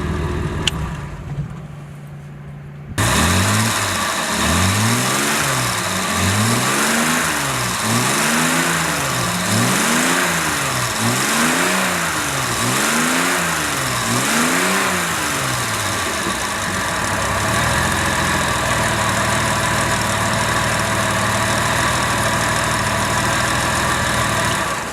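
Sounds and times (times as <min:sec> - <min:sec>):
car engine revving and idling: 0:00.0 - 0:01.3, 0:03.0 - 0:24.9.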